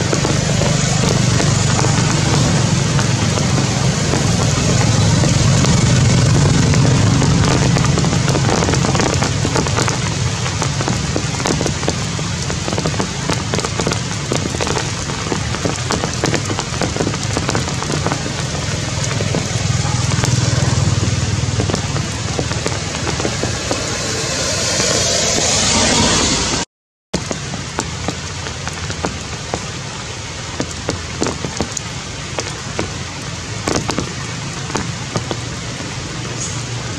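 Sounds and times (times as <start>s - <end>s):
heavy rain on foliage: 0.0s - 26.5s, 27.2s - 36.9s.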